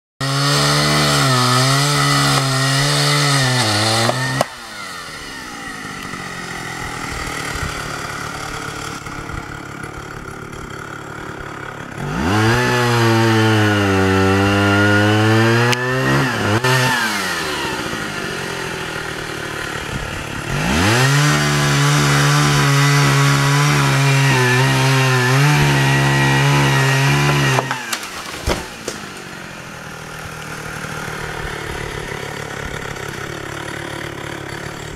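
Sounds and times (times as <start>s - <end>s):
chainsaw revving: 0.2s - 34.9s.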